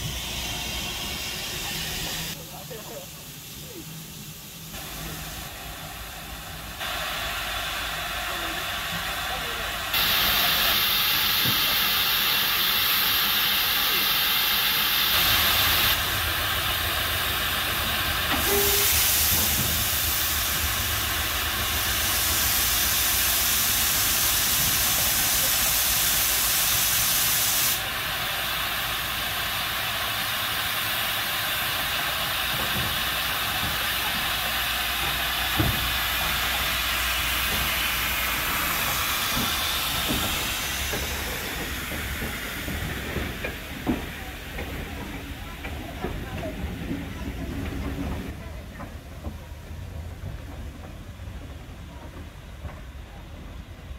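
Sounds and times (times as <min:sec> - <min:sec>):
steam locomotive hissing: 0:00.0 - 0:53.9.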